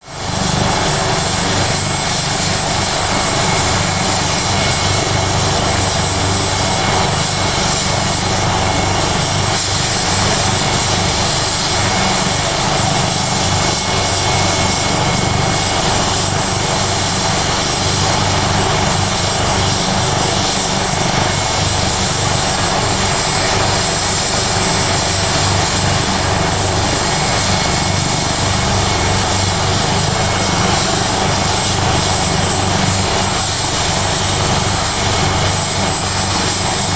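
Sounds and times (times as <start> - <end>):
helicopter rotor running: 0.0 - 36.9
high-pitched turbine whine: 0.0 - 36.9.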